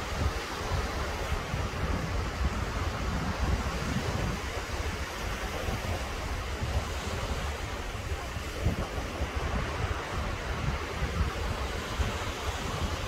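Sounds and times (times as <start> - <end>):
small waves breaking on sand: 0.0 - 13.0
wind rumbling on microphone: 0.0 - 13.0.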